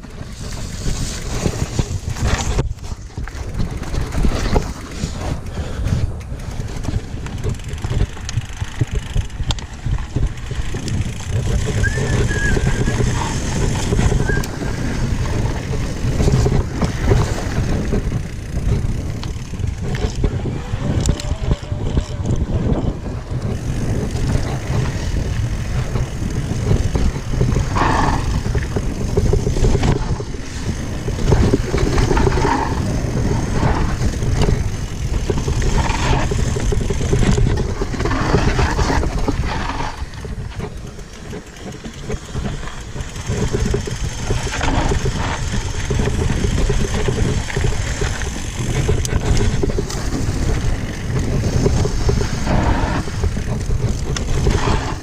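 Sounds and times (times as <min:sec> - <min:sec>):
bike rumbling on rough trail: 0:00.0 - 0:55.0
wind buffeting microphone: 0:00.0 - 0:55.0.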